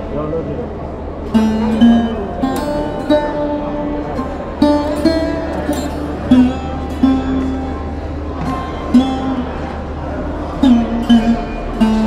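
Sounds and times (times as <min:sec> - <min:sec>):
steady low hum: 0:00.0 - 0:12.0
plucked string music: 0:00.8 - 0:12.0.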